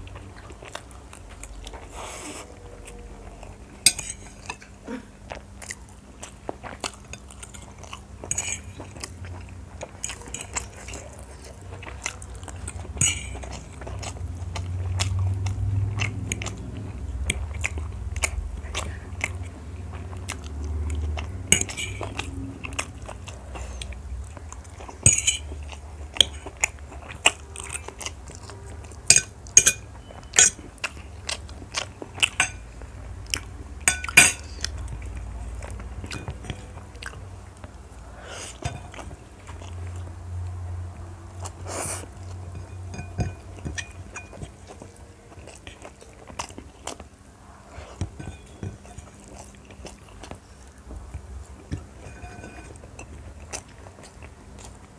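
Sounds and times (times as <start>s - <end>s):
crunchy chewing: 0.0s - 54.9s.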